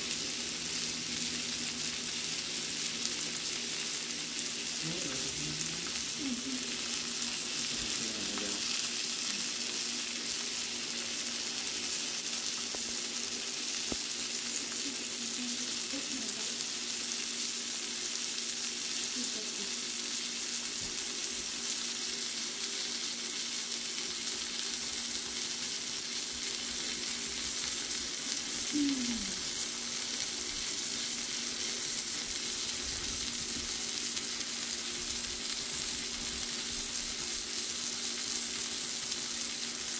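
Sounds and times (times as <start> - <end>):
fish sizzling in butter: 0.0 - 39.9.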